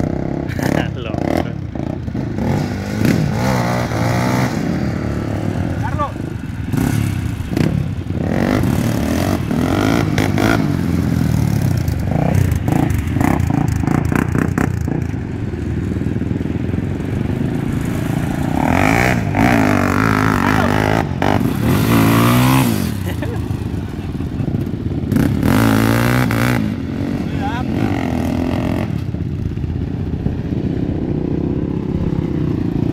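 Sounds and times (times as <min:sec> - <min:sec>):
atv engines revving: 0:00.0 - 0:32.9.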